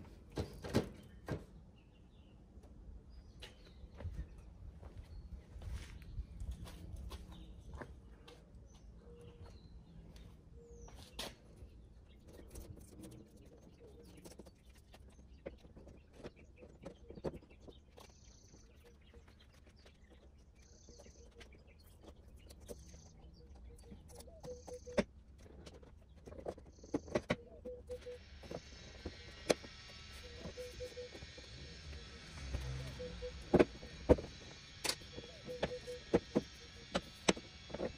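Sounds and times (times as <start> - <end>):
birds chirping: 0.4 - 37.9.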